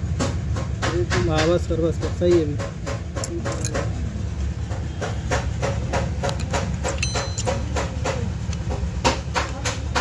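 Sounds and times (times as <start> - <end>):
engine idling with regular tick: 0.0 - 10.0.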